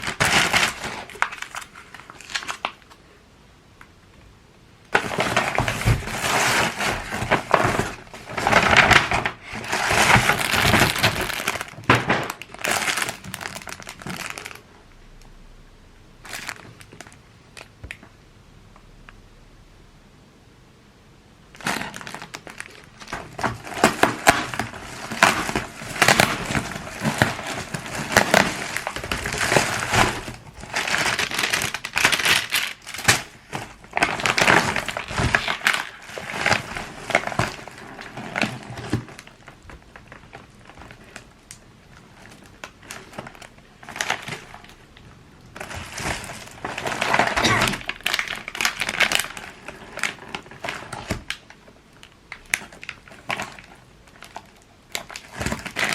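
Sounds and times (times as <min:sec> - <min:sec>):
packaging crinkling and rustling: 0:00.0 - 0:03.0, 0:04.9 - 0:14.9, 0:16.2 - 0:18.1, 0:21.5 - 0:55.9.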